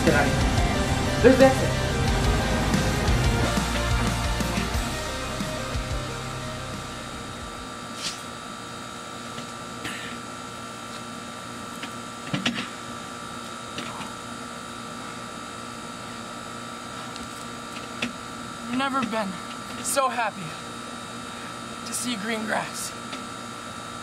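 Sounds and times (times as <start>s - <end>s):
faint steady whine: 0.0s - 24.0s.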